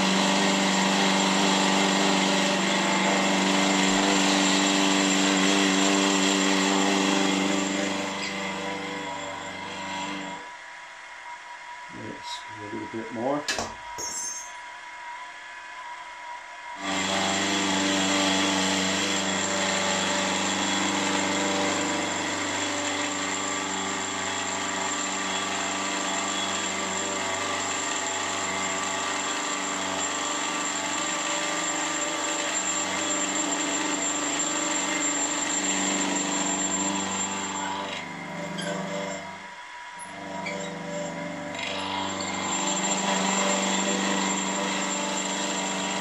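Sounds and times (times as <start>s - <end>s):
milling machine cutting metal: 0.0s - 10.5s, 16.8s - 46.0s.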